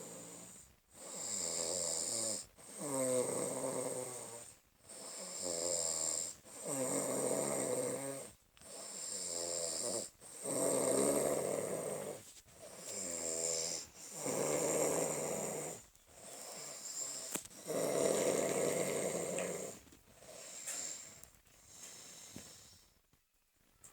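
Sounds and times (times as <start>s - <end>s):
man snoring: 0.0s - 15.8s, 16.4s - 19.8s.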